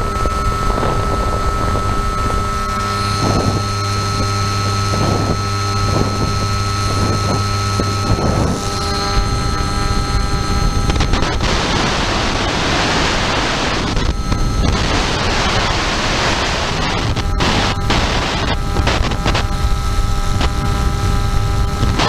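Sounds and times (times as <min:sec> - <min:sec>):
motor whine: 0:00.0 - 0:22.0
wind rushing over microphone: 0:00.0 - 0:22.0.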